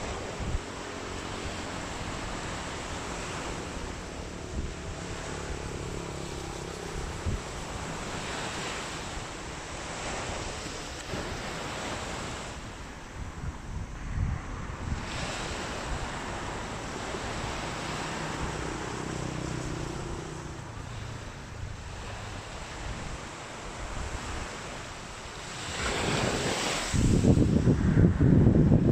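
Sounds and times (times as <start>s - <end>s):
surf washing onto beach: 0.0s - 28.9s
wind buffeting microphone: 0.0s - 28.9s.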